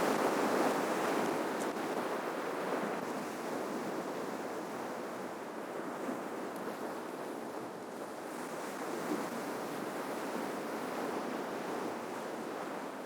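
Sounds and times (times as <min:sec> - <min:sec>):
ocean surf washing on shore: 0:00.0 - 0:13.0.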